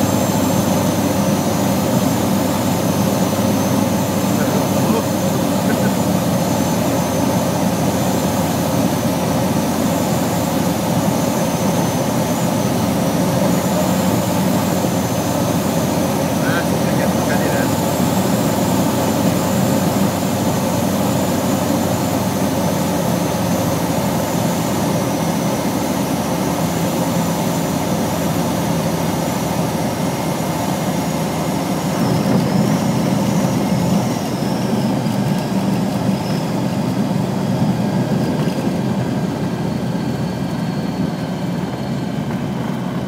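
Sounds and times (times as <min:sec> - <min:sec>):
aircraft engine at low power: 0:00.0 - 0:43.0.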